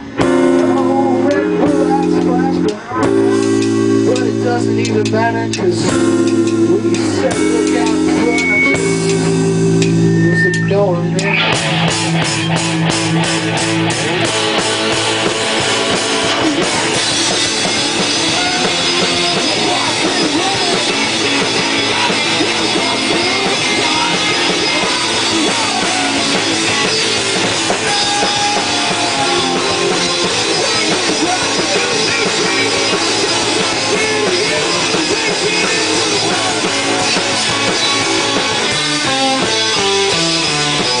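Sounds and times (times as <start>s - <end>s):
drum kit with cymbals: 0.0s - 41.0s
electric guitars: 0.0s - 41.0s.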